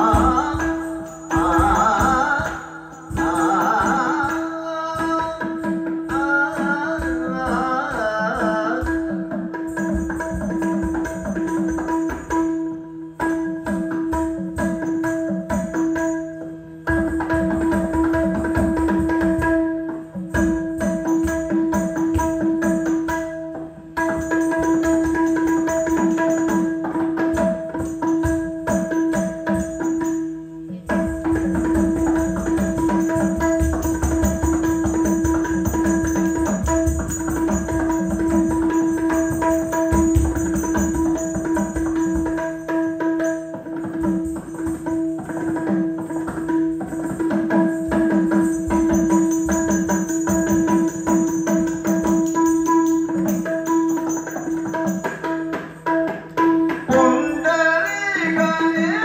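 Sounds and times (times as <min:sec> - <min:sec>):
fast hand drum strokes: 0:00.0 - 0:12.6, 0:16.9 - 0:59.0.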